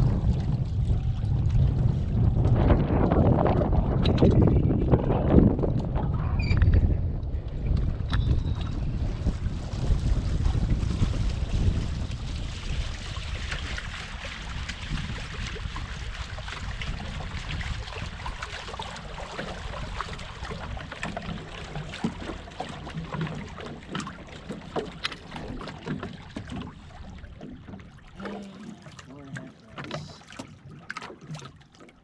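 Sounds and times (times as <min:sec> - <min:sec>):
wind rumbling on microphone: 0:00.0 - 0:29.3
water splashing against boat hull: 0:00.0 - 0:32.0.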